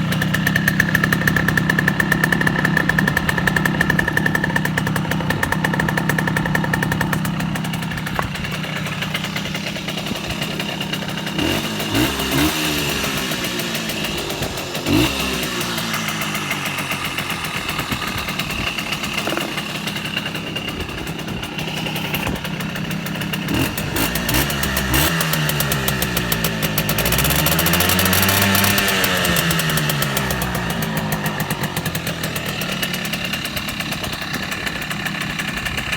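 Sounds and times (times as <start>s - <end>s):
small two-stroke engine running: 0.0s - 35.9s.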